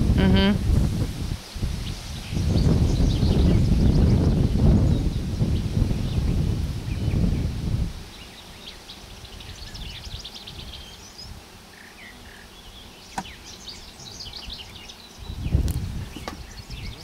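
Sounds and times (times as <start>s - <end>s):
birds singing chirping phrases: 0.2s - 17.0s.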